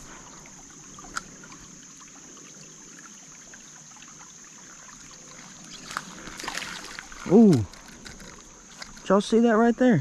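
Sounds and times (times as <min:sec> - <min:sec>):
creek trickling: 0:00.0 - 0:10.0
high-pitched insect drone: 0:00.0 - 0:10.0.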